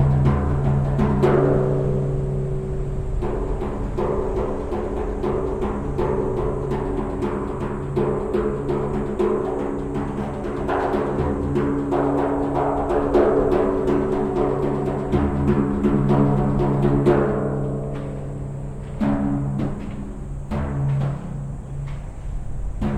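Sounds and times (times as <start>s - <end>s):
frame drum strokes with echo: 0.0s - 22.9s.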